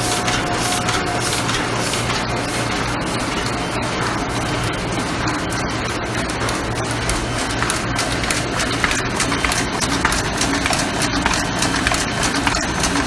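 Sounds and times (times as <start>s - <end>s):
printing press clattering: 0.0s - 13.0s.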